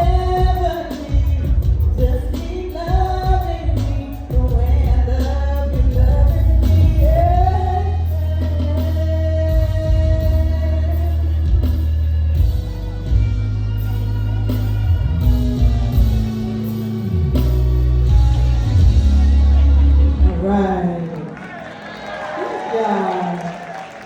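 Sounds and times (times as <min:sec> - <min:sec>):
heavy steady bass: 0:00.0 - 0:21.0
live band music: 0:00.0 - 0:21.0.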